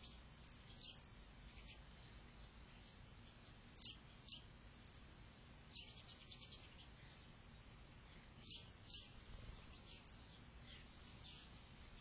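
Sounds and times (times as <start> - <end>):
faint bird chirps: 0.0 - 4.6, 5.7 - 12.0.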